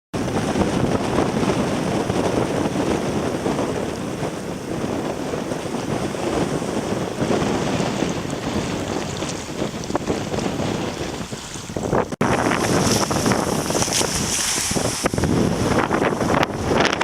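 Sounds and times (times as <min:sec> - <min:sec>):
strong wind on microphone: 0:00.1 - 0:17.0
surf and rushing water: 0:00.2 - 0:17.0.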